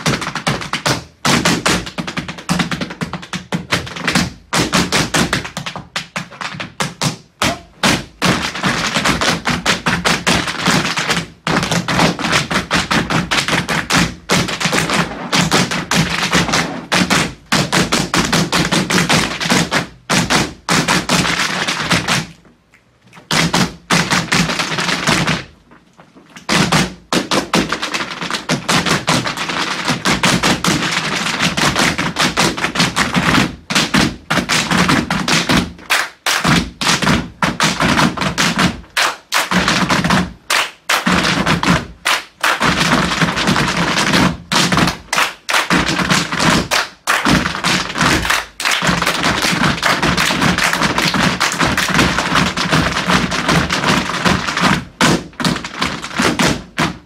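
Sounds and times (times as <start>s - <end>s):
tap dancing on wooden floor: 0.0s - 22.4s, 23.2s - 57.0s.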